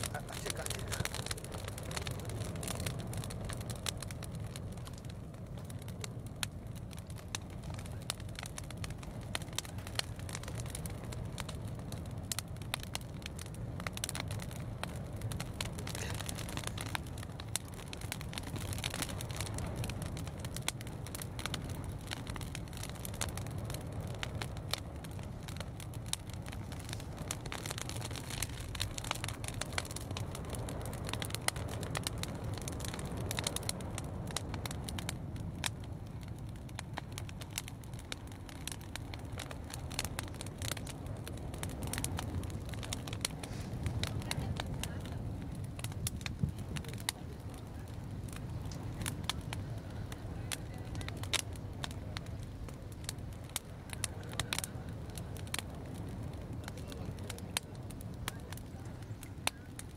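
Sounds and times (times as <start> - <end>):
low rumble: 0.0 - 59.2
fire crackling: 0.0 - 59.9.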